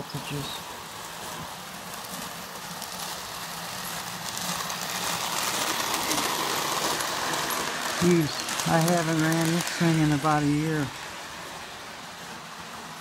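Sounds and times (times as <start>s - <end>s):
toy train electric hum: 0.0s - 13.0s
toy train wheel clatter: 1.2s - 11.8s.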